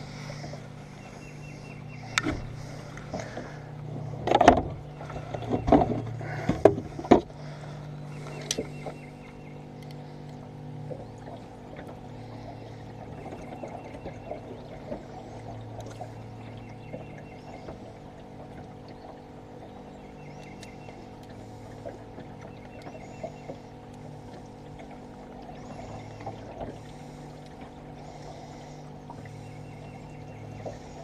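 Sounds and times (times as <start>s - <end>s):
trickling water: 0.0s - 31.0s.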